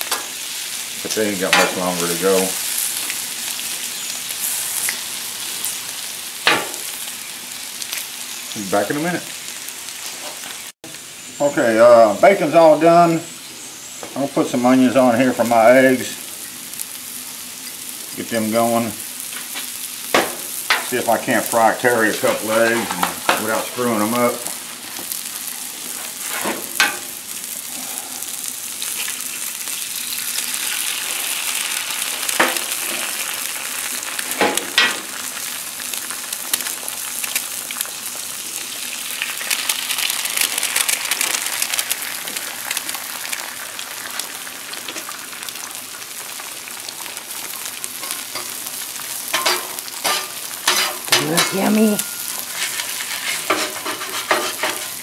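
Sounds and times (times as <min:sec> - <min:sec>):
food sizzling on a griddle: 0:00.0 - 0:55.0.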